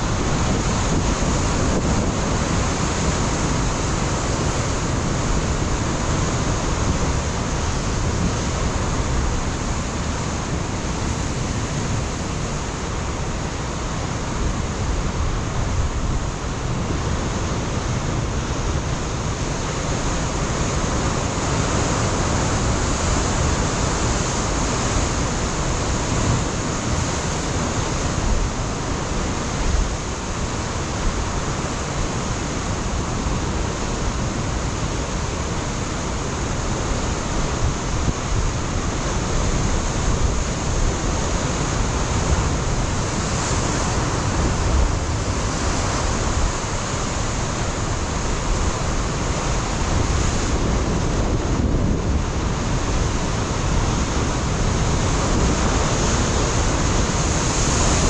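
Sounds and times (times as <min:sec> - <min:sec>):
surf washing against rocks: 0:00.0 - 0:58.0
wind buffeting microphone: 0:00.0 - 0:58.0.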